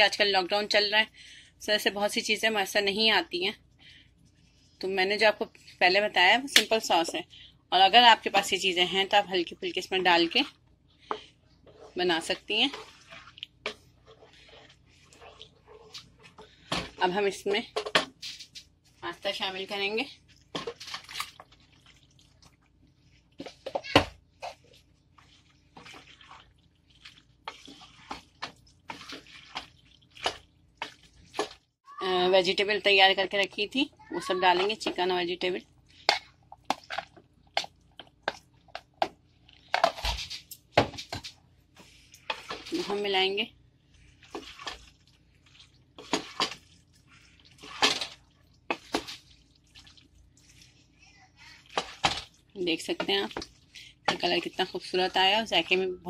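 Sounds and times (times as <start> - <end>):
spatula squelching and scraping pan: 4.0 - 56.0.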